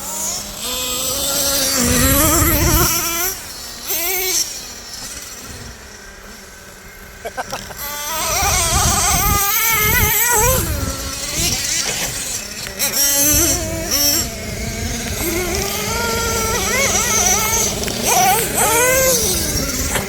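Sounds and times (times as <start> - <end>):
small nitro engines revving: 0.0 - 20.0.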